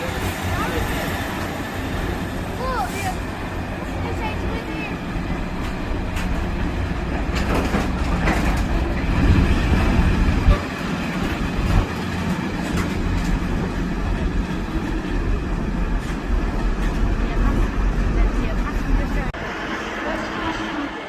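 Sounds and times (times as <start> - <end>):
train wheels clattering on rails: 0.0 - 19.4.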